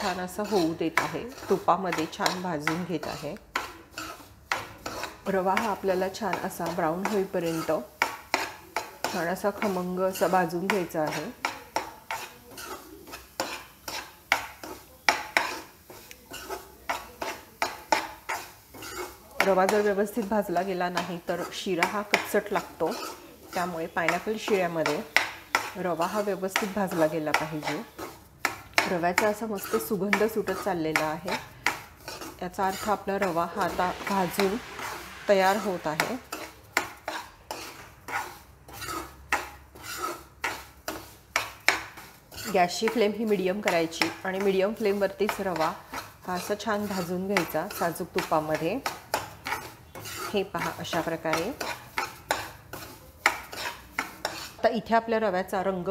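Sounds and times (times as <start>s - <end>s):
spatula scraping a pan: 0.0s - 55.9s.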